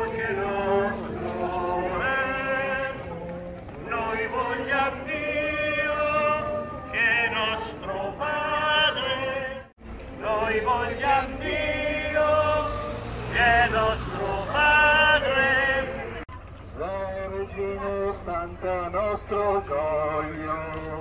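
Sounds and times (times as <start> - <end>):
group singing a hymn: 0.0 - 21.0.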